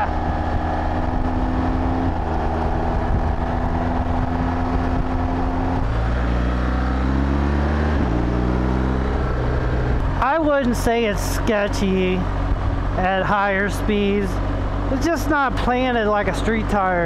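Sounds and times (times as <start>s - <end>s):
motorcycle engine drone: 0.0s - 17.0s
tyres humming on tarmac: 0.0s - 17.0s
wind: 0.0s - 17.0s.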